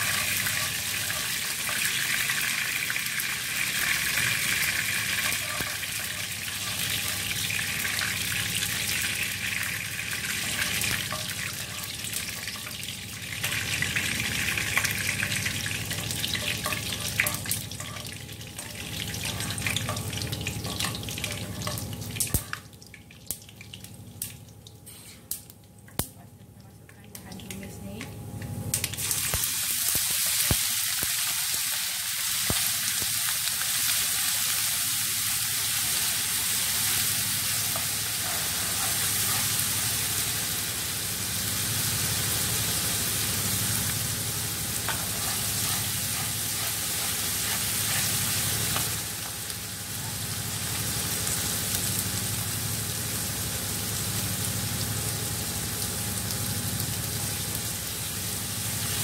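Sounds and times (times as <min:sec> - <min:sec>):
spice paste sizzling in hot oil: 0:00.0 - 0:22.6, 0:28.9 - 0:59.0.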